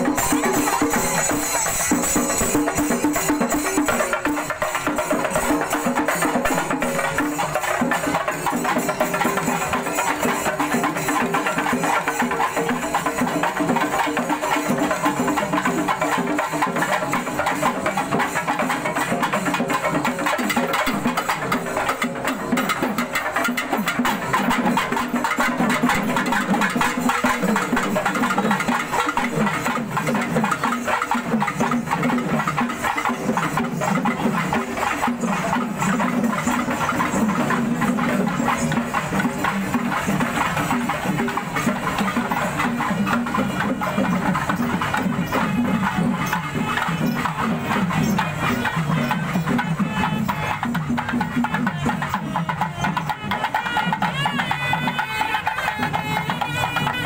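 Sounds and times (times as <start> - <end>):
barrel drums drumming: 0.0 - 57.0.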